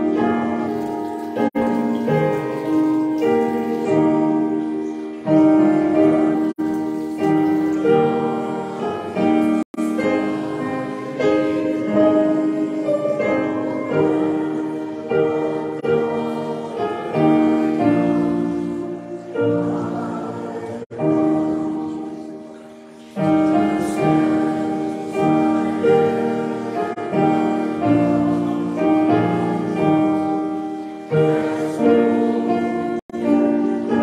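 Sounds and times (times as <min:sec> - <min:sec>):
congregation singing a hymn: 0:00.0 - 0:34.0
piano accompaniment: 0:00.0 - 0:34.0.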